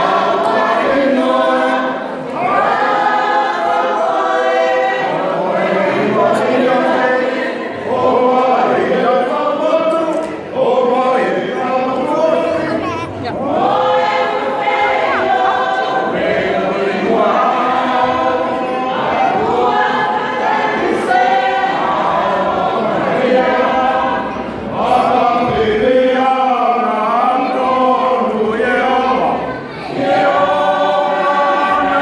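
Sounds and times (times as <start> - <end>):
choir singing unaccompanied: 0.0 - 32.0.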